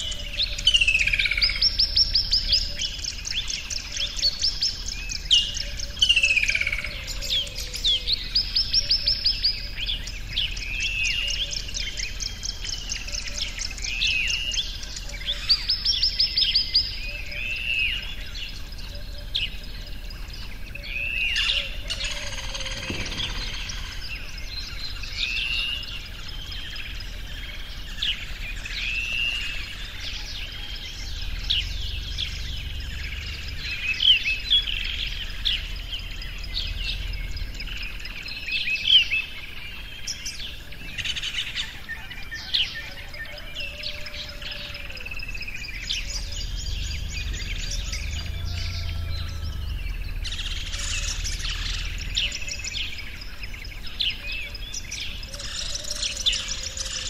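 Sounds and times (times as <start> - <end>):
birds chirping and singing: 0.0 - 57.0
faint low rumble: 6.8 - 42.2, 44.1 - 57.0.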